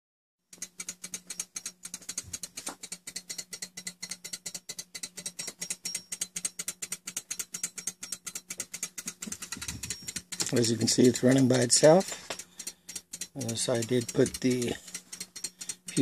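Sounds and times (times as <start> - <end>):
clock escapement ticking rapidly: 0.5 - 16.0.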